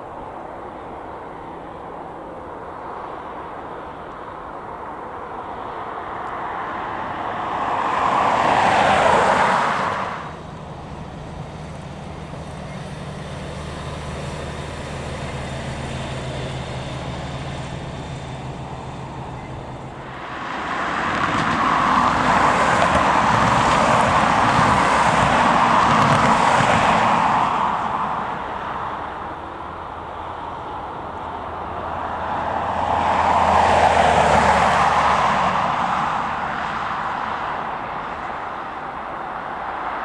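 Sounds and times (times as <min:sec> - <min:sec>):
engine noise: 0:00.0 - 0:40.0.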